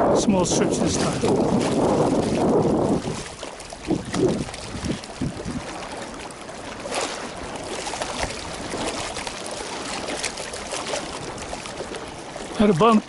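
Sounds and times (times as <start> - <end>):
small water splashes: 0.0 - 13.0
wind: 0.0 - 13.0.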